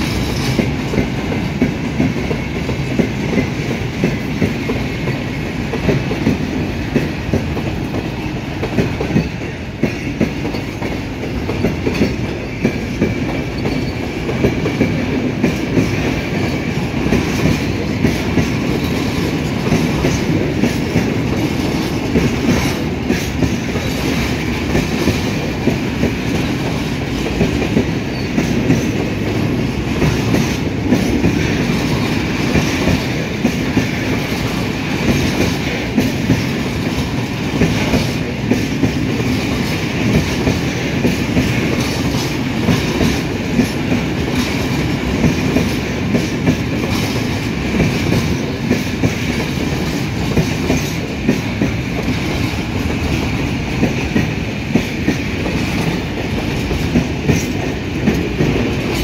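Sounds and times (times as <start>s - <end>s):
train wheels rumbling on rail: 0.0s - 59.0s
wheels clacking over rail joints: 0.0s - 59.0s.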